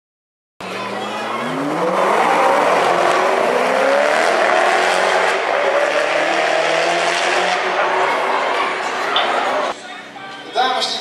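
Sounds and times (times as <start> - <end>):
sports cars accelerating hard: 0.6 - 9.8.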